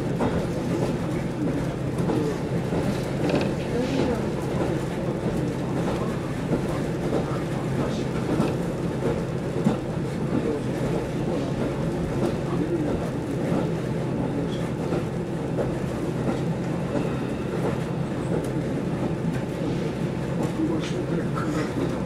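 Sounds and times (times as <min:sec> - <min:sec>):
train engine and wheels running: 0:00.0 - 0:22.0.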